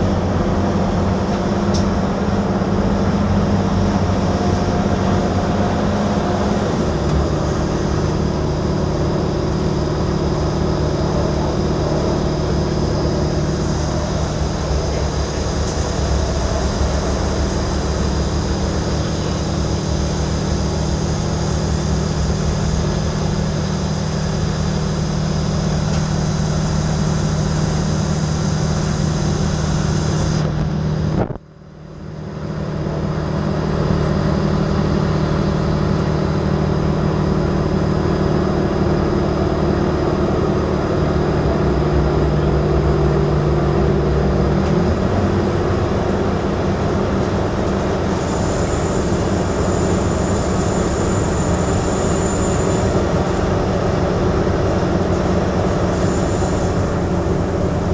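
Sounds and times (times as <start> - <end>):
train drive hum: 0.0 - 57.9.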